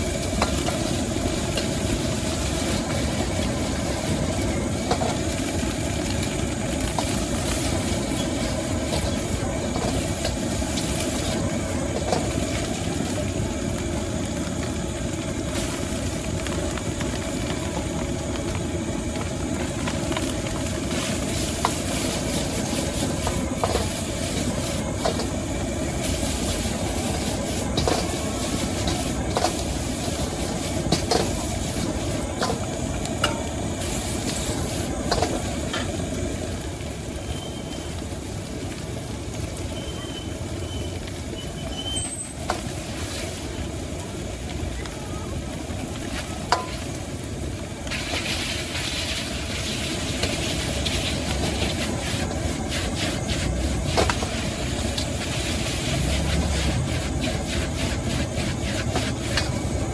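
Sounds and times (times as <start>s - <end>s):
food sizzling in a wok: 0.0s - 59.9s
gas burner rushing: 0.0s - 59.9s.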